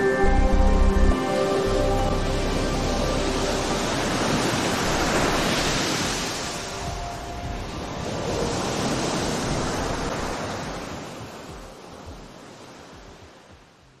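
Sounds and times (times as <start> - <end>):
ocean surf: 0.0 - 14.0.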